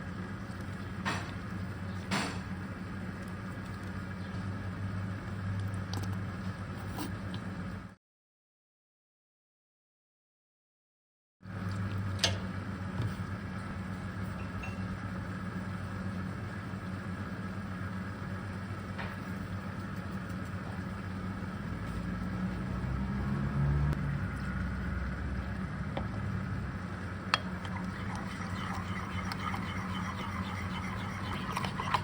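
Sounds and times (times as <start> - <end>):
low machine hum: 0.0 - 8.0, 11.4 - 32.0.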